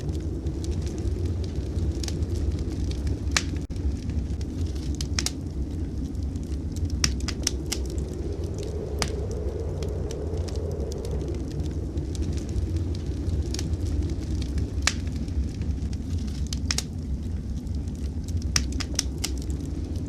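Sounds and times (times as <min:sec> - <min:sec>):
fire pops: 0:00.0 - 0:20.0
low rumble of blizzard wind: 0:00.0 - 0:20.0
wood fire crackling: 0:00.0 - 0:20.0.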